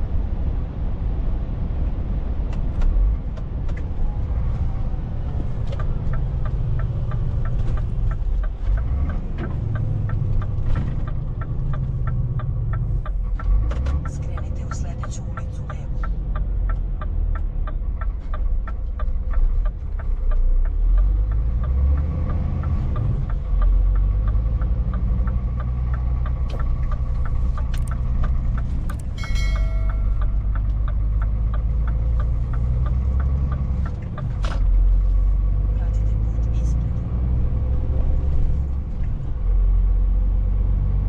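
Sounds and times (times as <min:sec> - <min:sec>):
diesel truck engine droning: 0:00.0 - 0:41.0
turn indicator ticking: 0:05.2 - 0:40.7.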